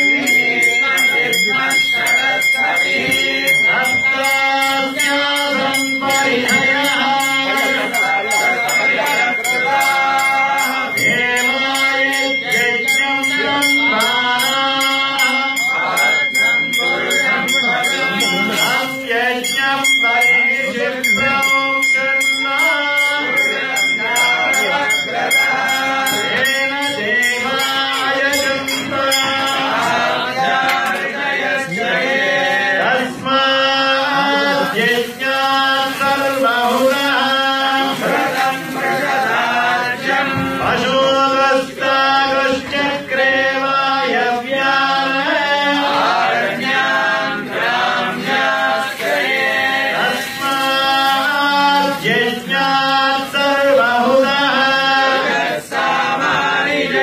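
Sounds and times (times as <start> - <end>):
male voices chanting together: 0.0 - 57.0.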